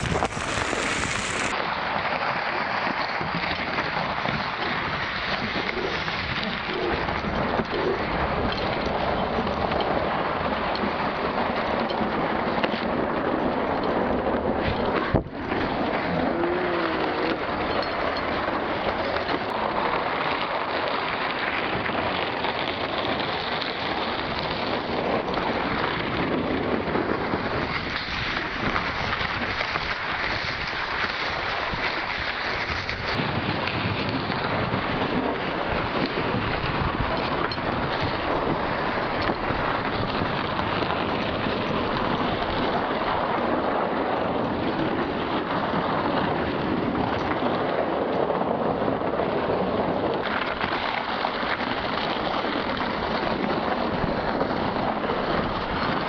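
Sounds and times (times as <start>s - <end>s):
sled sliding over icy snow: 0.0s - 56.0s
wind buffeting microphone: 0.0s - 56.0s.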